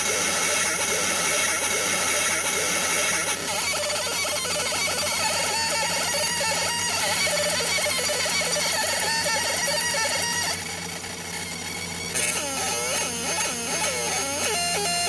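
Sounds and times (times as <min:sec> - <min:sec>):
laser engraver buzzing chirp: 0:00.0 - 0:15.0.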